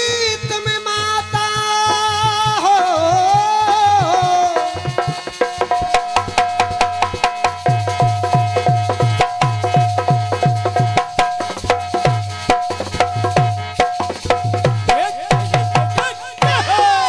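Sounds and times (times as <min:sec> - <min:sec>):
harmonium holding one note: 0:00.0 - 0:17.0.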